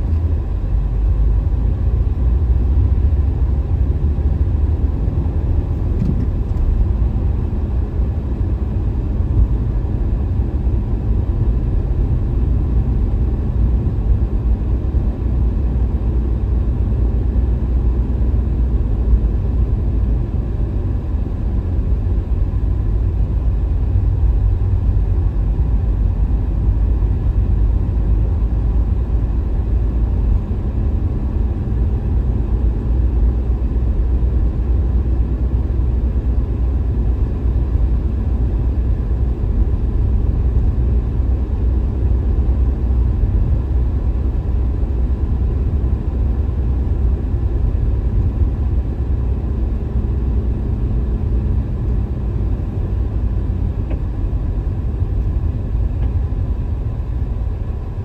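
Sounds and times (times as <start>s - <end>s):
car engine rumble: 0.0s - 58.0s
road noise: 0.0s - 58.0s.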